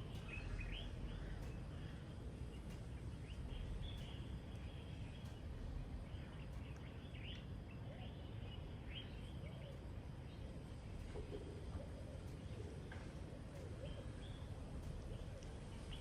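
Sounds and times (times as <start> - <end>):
birds chirping: 0.0 - 16.0
low background rumble: 0.0 - 16.0.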